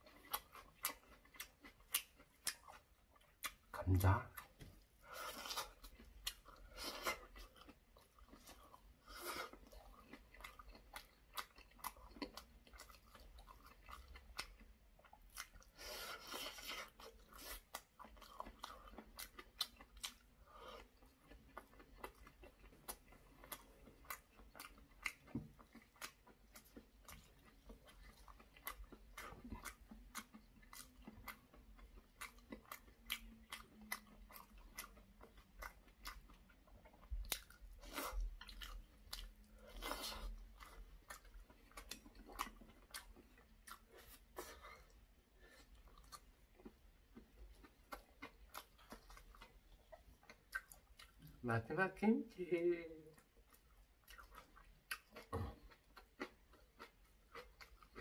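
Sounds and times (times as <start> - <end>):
close-miked chewing: 0.0 - 58.0.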